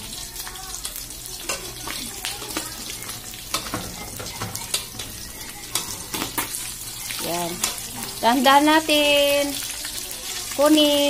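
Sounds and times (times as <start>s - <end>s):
fish sizzling in oil: 0.0s - 11.0s
oil popping and crackling: 0.0s - 11.0s.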